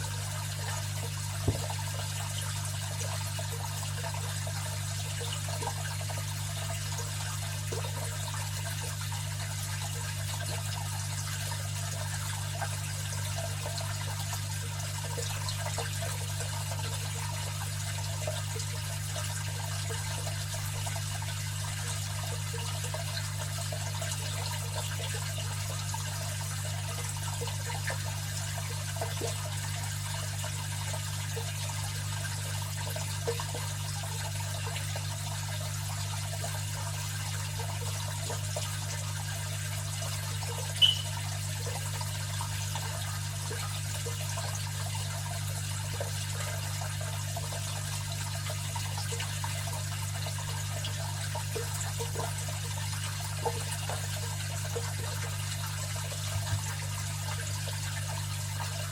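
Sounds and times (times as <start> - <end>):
water trickling in aquarium filter: 0.0 - 58.9.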